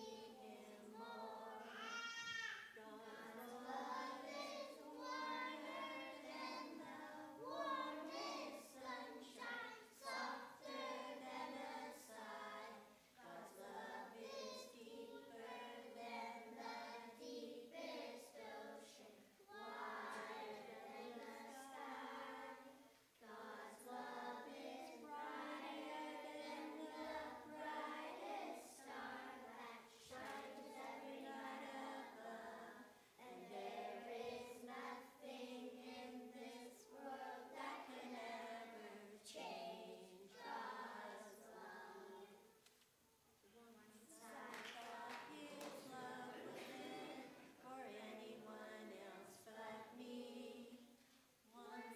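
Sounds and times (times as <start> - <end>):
children's choir singing: 0.0 - 42.5, 43.7 - 51.9.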